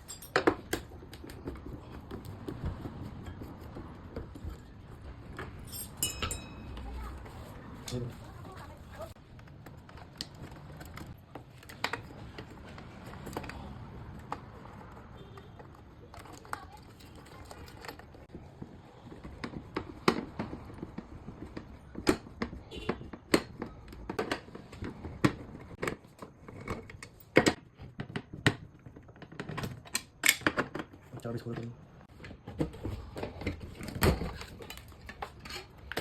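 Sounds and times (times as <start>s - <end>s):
hand tools and metal parts clicking: 0.0s - 18.3s, 19.0s - 36.0s.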